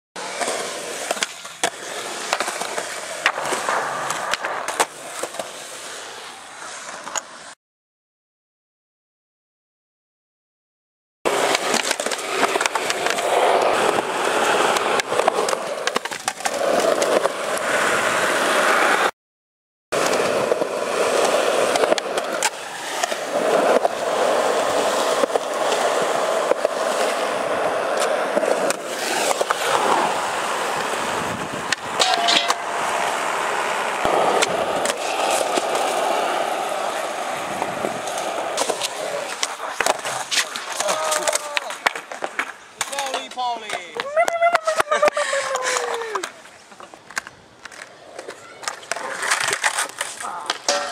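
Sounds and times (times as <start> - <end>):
skateboard wheels rolling on concrete: 0.2 - 7.6, 11.3 - 19.1, 19.9 - 50.9
skateboard clacks: 0.3 - 5.5, 11.3 - 19.0, 20.0 - 50.9.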